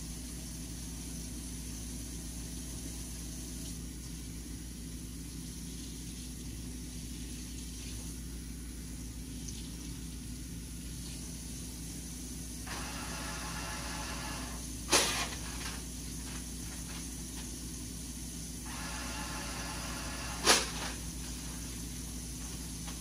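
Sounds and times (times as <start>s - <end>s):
water running from faucet: 0.0s - 20.3s
steady low hum: 0.0s - 23.0s.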